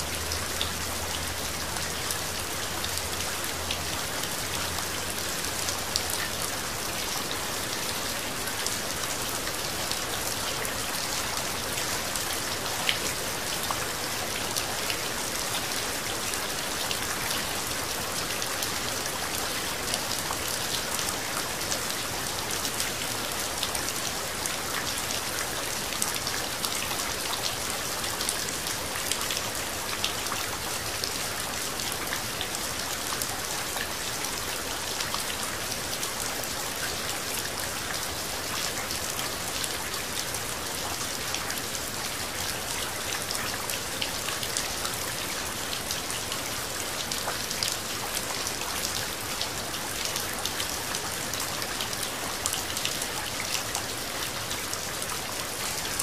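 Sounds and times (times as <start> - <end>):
raindrops hitting close by: 0.0 - 56.0.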